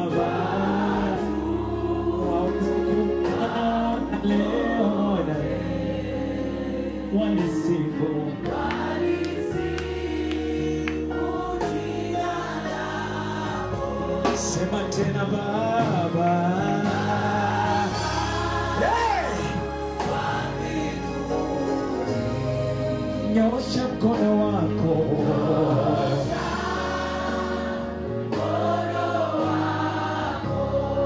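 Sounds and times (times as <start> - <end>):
choir and congregation singing: 0.0 - 31.0
held instrumental chords: 0.0 - 31.0
steady bass line: 0.0 - 31.0.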